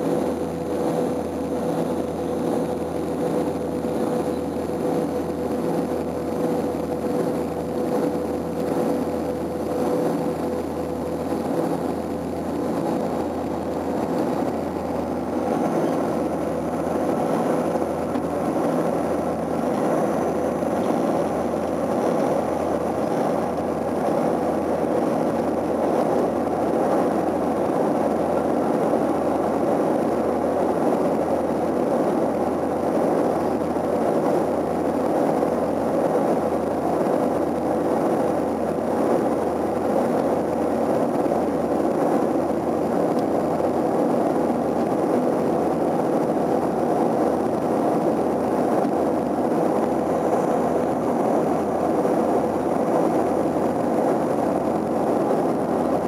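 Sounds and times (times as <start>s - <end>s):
steady hum: 0.0s - 56.0s
turboprop cabin drone: 0.0s - 56.0s.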